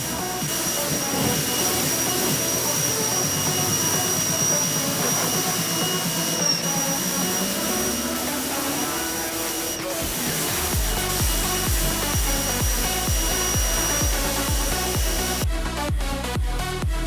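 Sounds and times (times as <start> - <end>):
whirring motor whine: 0.0 - 15.5.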